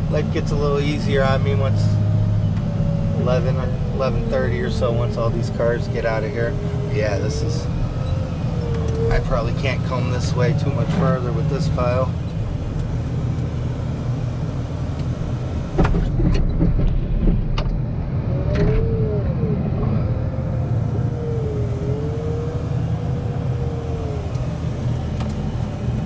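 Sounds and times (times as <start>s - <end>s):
diesel engine running under load: 0.0s - 26.0s
wavering whine: 0.0s - 26.0s.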